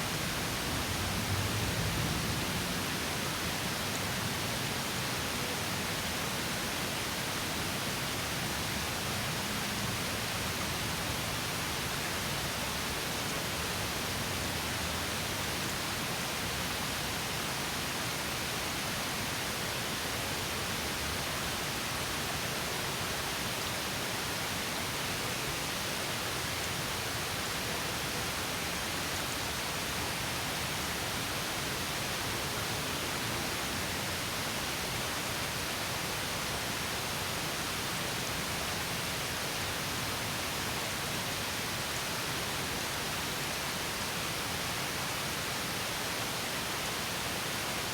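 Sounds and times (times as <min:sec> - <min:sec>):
stream over small waterfall: 0:00.0 - 0:47.9.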